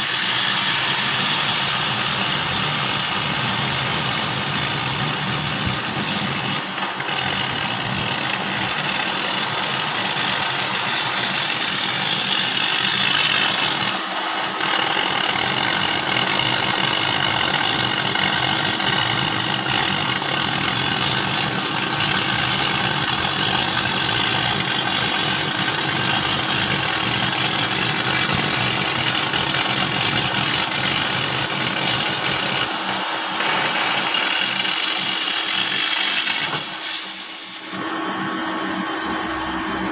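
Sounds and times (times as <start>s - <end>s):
cutting torch hissing: 0.0s - 37.8s.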